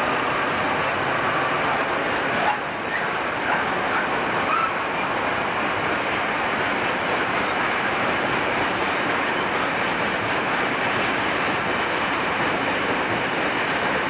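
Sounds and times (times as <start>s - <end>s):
train wheels rolling on rail: 0.0s - 14.0s.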